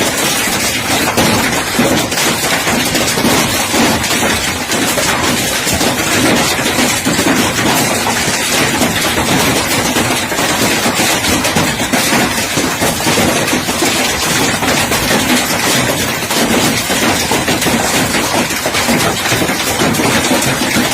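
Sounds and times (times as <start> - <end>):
hail clattering on hard surfaces: 0.0 - 20.9.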